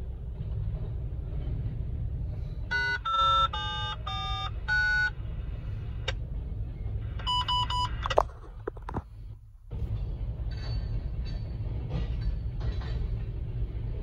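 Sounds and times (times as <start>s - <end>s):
freight train rumbling over crossing: 0.0s - 7.5s, 9.6s - 14.0s.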